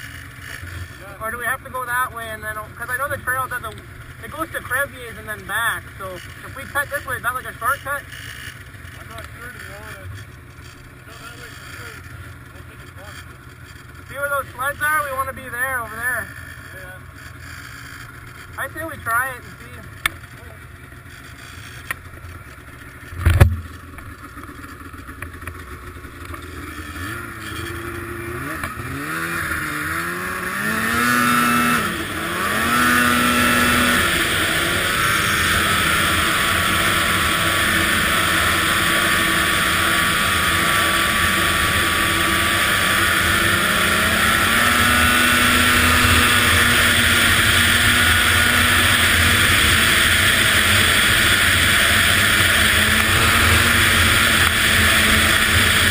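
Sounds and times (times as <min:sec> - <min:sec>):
snowmobile engine revving: 0:00.0 - 0:21.9, 0:25.6 - 0:55.9.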